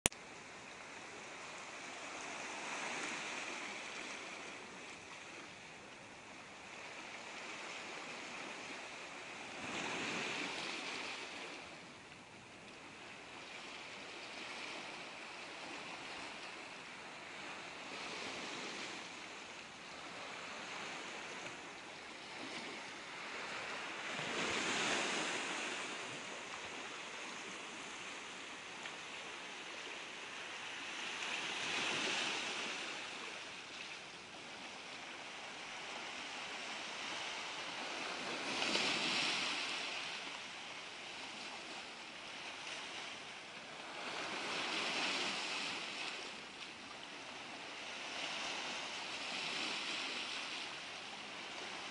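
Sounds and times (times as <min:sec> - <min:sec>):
small waves washing on pebbles: 0:00.3 - 0:51.9.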